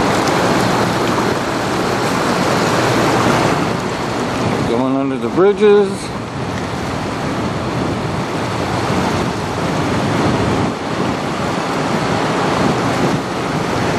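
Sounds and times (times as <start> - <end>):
rushing water: 0.0 - 13.9
wind buffeting microphone: 0.0 - 13.9.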